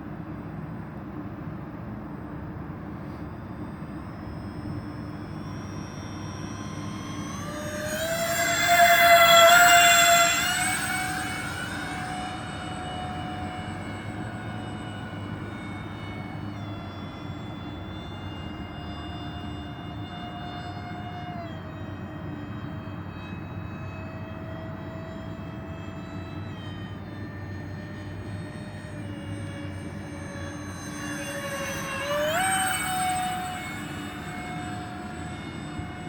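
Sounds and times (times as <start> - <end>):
electric ducted fans whining: 0.0 - 36.0.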